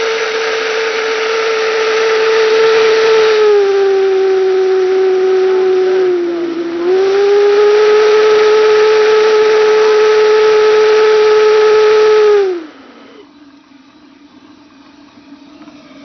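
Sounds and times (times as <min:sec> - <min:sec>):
steam whistle blowing: 0:00.0 - 0:13.3
hiss of escaping steam: 0:00.0 - 0:13.4.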